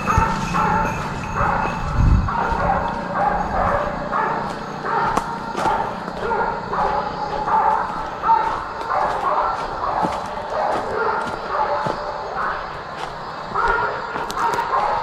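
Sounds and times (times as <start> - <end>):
dog barking: 0.0 - 12.8, 13.5 - 15.0.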